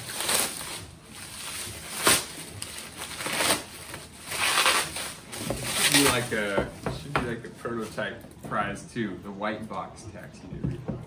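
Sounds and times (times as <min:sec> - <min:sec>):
bubble wrap crinkling and rustling: 0:00.0 - 0:09.7.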